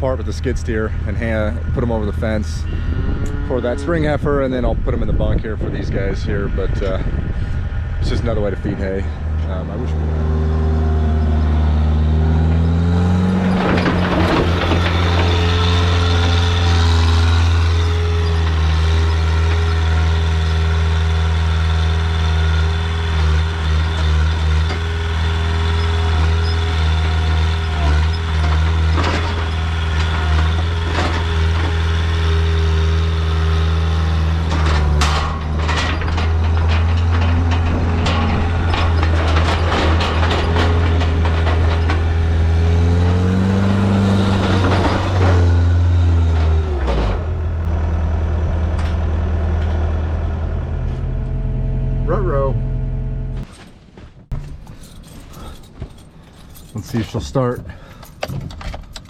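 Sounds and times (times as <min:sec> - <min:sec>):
skid steer engine running: 0:00.0 - 0:53.5.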